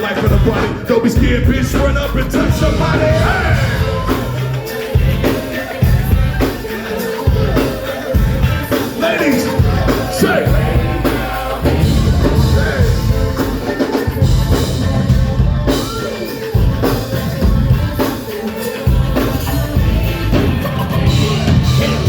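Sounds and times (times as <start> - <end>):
live band playing hip-hop beat: 0.0 - 22.0
rapping: 0.0 - 22.0.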